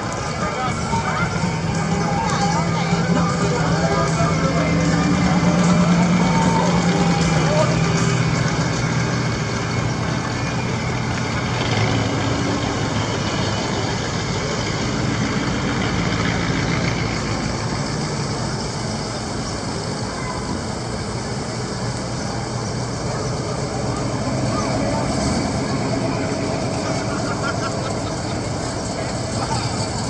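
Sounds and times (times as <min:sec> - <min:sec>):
cars passing: 0:00.0 - 0:30.0
street noise: 0:00.0 - 0:30.0.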